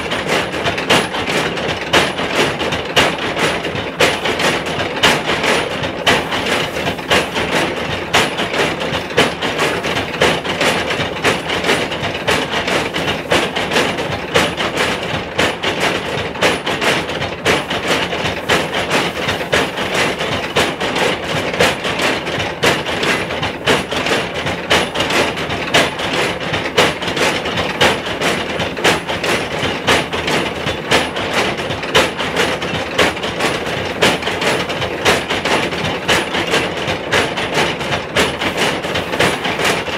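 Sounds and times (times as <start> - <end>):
pestles knocking rhythmically: 0.0 - 39.9.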